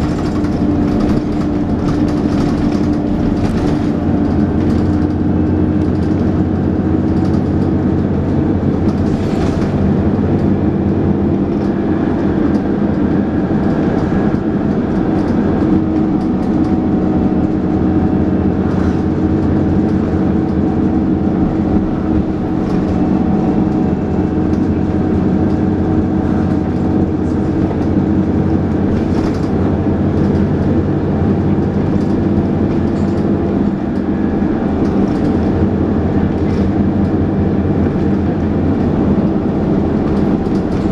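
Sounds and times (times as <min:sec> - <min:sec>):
bus body rattling: 0:00.0 - 0:40.9
bus engine running: 0:00.0 - 0:40.9.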